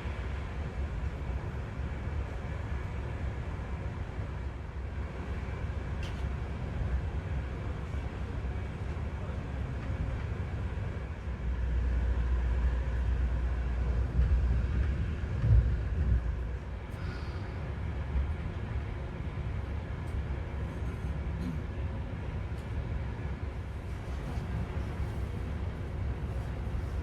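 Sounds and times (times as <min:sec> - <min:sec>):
train rumble: 0:00.0 - 0:27.0.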